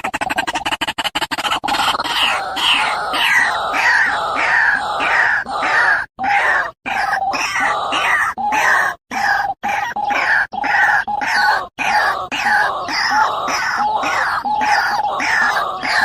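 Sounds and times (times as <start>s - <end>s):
bird harsh falling calls: 1.7s - 16.0s.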